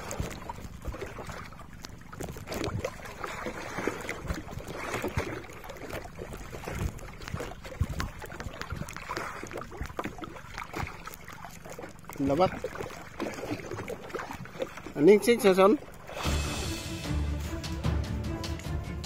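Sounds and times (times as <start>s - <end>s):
water slapping against boat hull: 0.0s - 16.7s.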